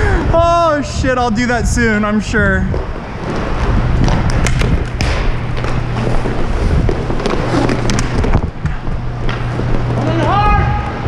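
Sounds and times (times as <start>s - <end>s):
steady low hum: 0.0s - 11.0s
skate wheels rolling and scraping: 2.1s - 11.0s.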